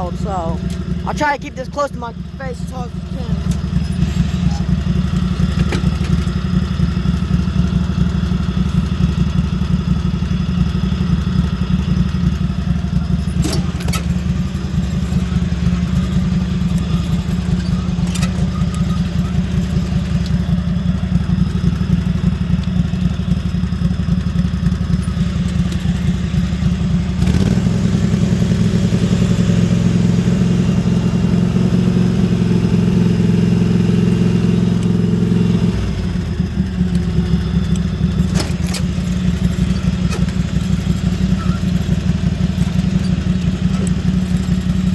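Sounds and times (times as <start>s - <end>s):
lawn mower engine pulsing exhaust: 0.0s - 44.9s.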